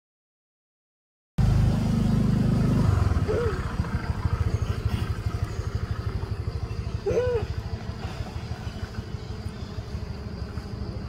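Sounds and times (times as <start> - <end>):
small engine chugging: 1.4 - 11.0.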